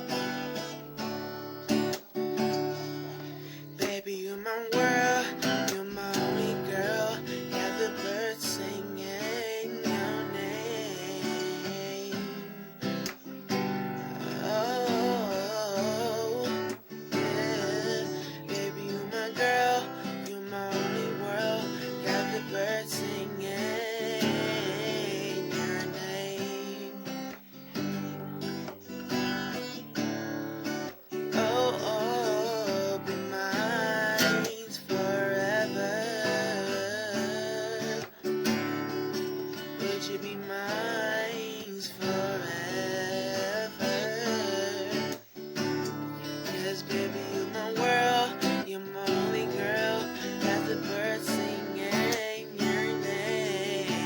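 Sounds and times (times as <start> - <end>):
strummed acoustic guitar: 0.0 - 54.0
person singing wavering melody: 2.4 - 27.3, 31.1 - 54.0.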